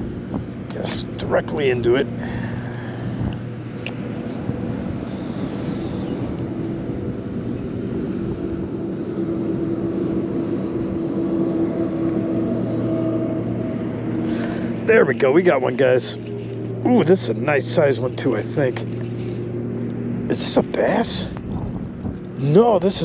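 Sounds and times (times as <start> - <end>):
mechanical drone with hum: 0.0 - 23.0
outdoor noise: 0.0 - 23.0.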